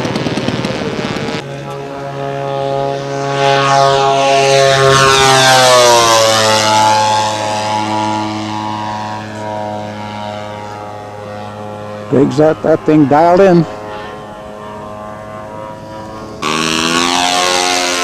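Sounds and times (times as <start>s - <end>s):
model airplane engines flying past: 0.0s - 18.0s.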